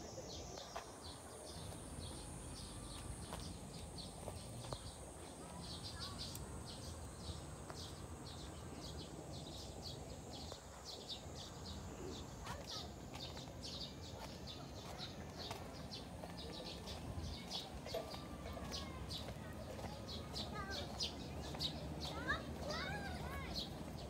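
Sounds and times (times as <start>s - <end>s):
faint outdoor hum: 0.0s - 24.0s
small birds chirping: 0.0s - 24.0s.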